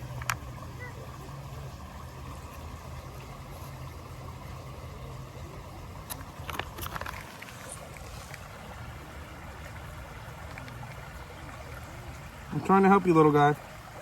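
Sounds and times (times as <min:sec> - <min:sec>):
creek water rumble: 0:00.0 - 0:14.0.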